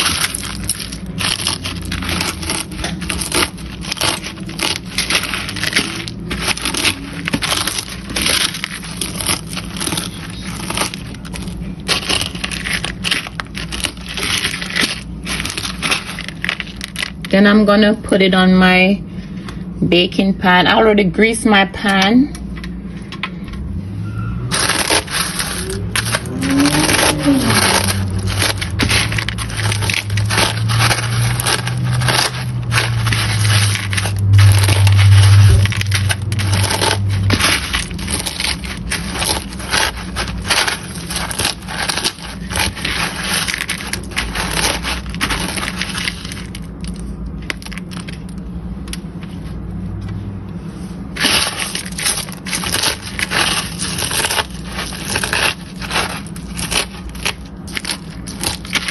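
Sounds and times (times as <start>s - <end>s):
cornflakes crunching and crackling: 0.0s - 17.8s, 24.5s - 49.0s, 50.8s - 58.9s
low steady hum: 0.0s - 58.9s.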